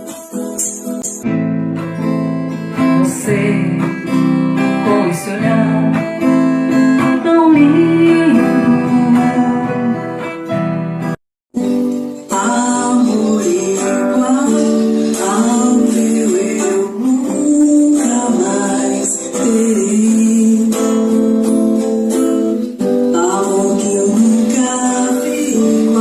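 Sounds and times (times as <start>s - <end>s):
acoustic guitar strumming: 0.0s - 26.0s
person singing: 2.7s - 10.6s, 11.6s - 26.0s.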